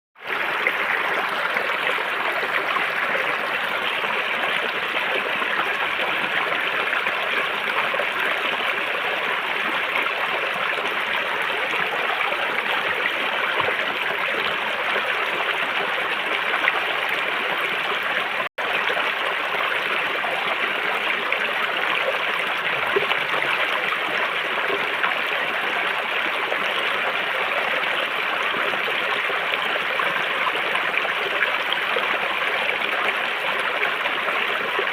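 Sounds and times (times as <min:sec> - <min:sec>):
river water flowing over rocks: 0:00.2 - 0:34.9.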